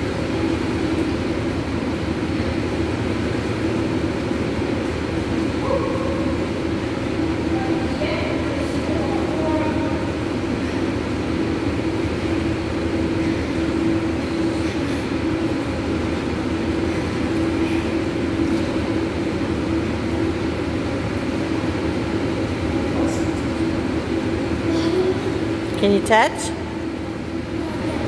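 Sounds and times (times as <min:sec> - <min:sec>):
ventilation system droning hum: 0:00.0 - 0:28.0.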